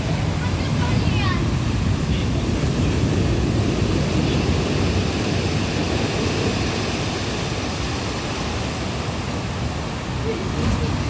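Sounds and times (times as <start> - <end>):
sea surf washing on shore: 0.0 - 11.0
wind buffeting microphone: 0.0 - 11.0.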